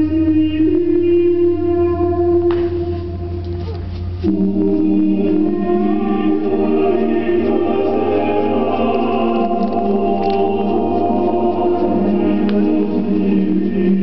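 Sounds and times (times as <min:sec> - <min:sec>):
slow music of held chords: 0:00.0 - 0:14.0.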